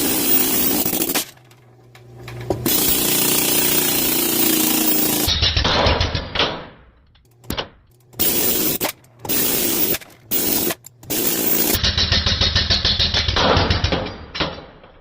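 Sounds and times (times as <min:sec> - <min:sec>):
pneumatic air hammer: 0:00.0 - 0:01.4, 0:02.6 - 0:06.8, 0:08.2 - 0:14.8.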